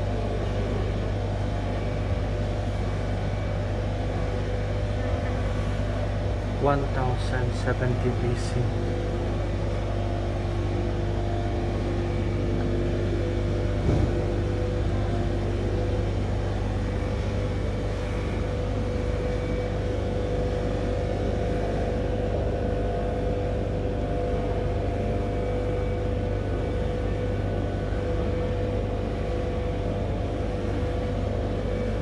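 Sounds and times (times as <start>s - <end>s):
low rumbling hum: 0.0s - 32.0s.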